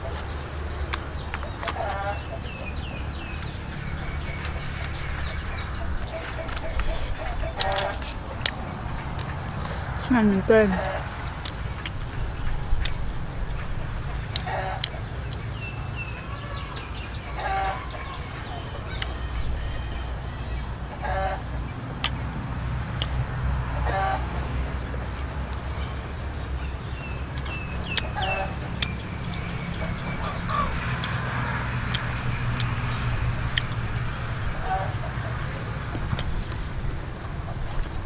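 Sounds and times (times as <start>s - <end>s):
chickens clucking: 0.0s - 10.0s, 10.6s - 38.0s.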